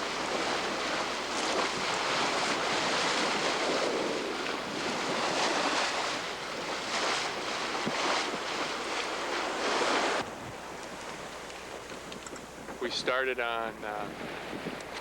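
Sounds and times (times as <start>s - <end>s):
sea rushing and breaking: 0.0s - 15.0s
wind buffeting microphone: 0.0s - 15.0s.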